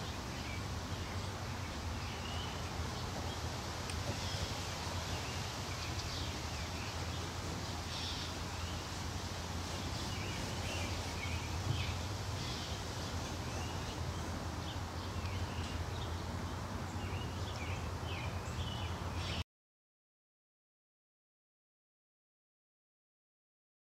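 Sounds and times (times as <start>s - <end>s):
small birds chirping: 0.0s - 19.4s.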